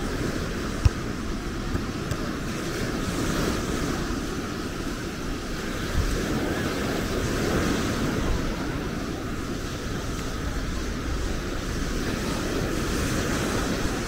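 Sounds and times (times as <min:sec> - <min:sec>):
surf washing: 0:00.0 - 0:14.0
wind rumbling on microphone: 0:00.0 - 0:14.0.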